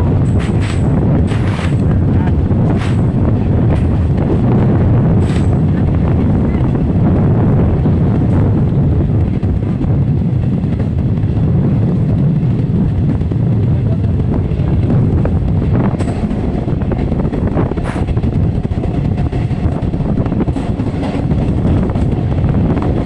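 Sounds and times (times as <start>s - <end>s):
train rumble: 0.0s - 23.0s
wind on microphone: 0.0s - 23.0s.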